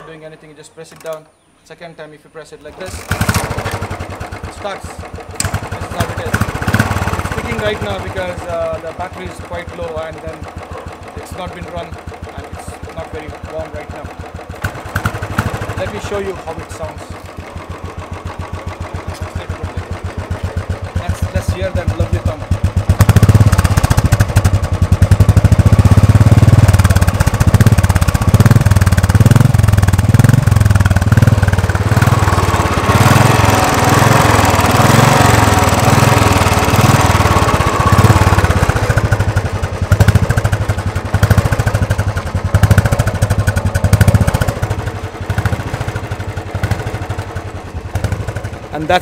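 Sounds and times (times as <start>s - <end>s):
mechanical engine clatter: 2.7s - 49.0s
motorcycle engine idling: 2.7s - 49.0s.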